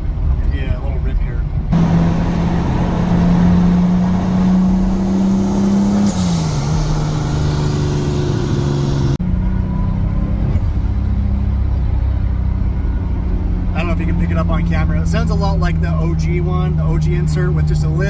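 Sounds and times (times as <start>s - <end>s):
turbocharged car engine: 0.0s - 18.0s.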